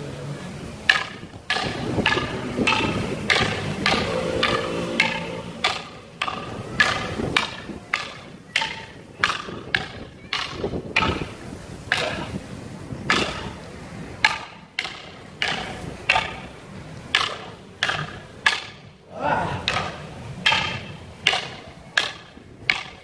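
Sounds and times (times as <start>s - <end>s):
fighting sticks clacking: 0.8s - 23.0s.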